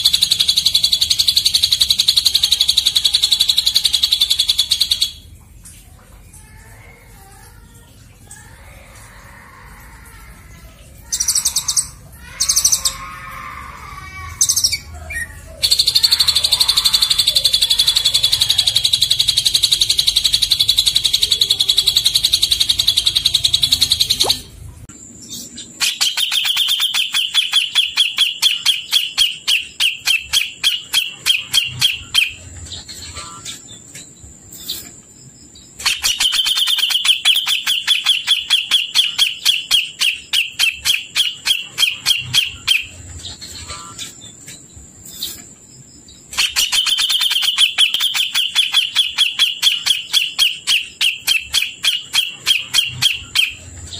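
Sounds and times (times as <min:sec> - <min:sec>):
songbirds singing trills: 0:00.0 - 0:09.3, 0:10.0 - 0:53.9.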